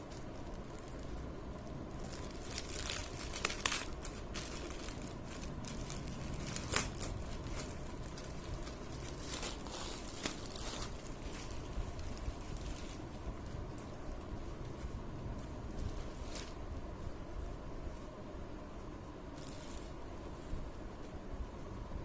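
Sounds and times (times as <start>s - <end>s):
packaging crinkling and rustling: 0.0s - 16.8s, 19.3s - 20.6s
low background rumble: 0.0s - 22.0s.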